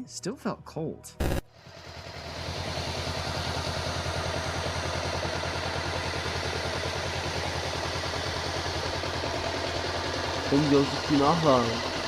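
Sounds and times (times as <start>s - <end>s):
engine idling: 1.5s - 12.0s.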